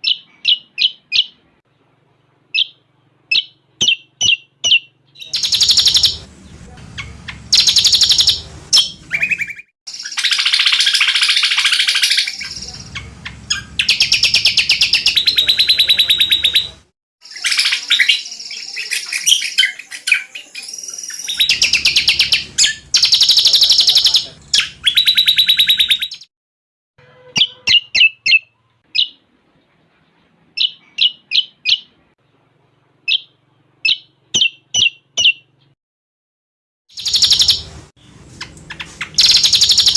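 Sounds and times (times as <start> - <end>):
bird trilling song: 0.0 - 1.4, 2.5 - 6.3, 6.9 - 26.3, 27.2 - 29.2, 30.6 - 32.0, 33.1 - 35.8, 36.9 - 37.8, 38.4 - 39.9.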